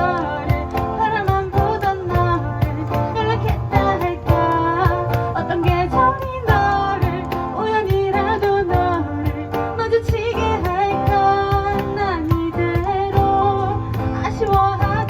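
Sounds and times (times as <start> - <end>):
bass: 0.0 - 15.0
cajon strikes: 0.0 - 15.0
guitar: 0.0 - 15.0
person singing: 0.0 - 15.0.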